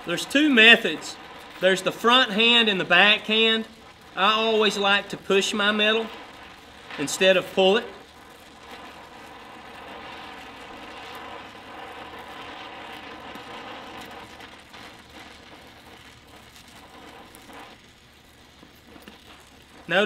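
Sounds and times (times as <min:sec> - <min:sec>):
welding torch flame hissing: 0:00.0 - 0:20.0.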